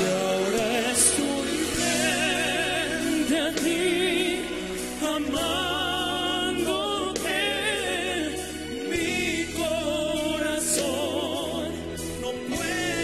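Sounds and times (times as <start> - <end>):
band backing: 0.0 - 13.0
male voices singing ballad: 0.0 - 13.0.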